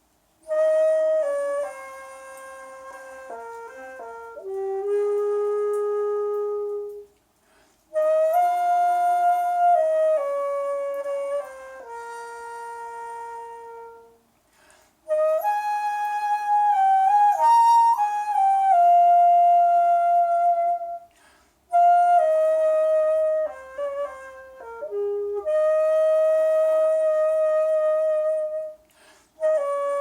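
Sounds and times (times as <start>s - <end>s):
bamboo flute slow melody: 0.0s - 7.2s, 7.9s - 30.0s.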